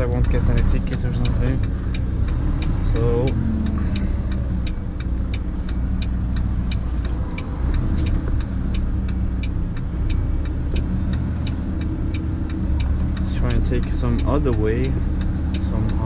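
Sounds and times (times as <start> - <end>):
truck diesel engine rumble: 0.0 - 16.0
turn signal ticking: 0.0 - 16.0.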